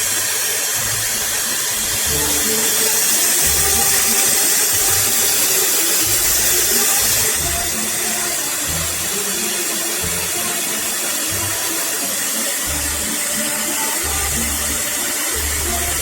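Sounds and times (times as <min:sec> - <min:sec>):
background music with bass: 0:00.0 - 0:16.0
hair dryer blowing: 0:00.0 - 0:16.0.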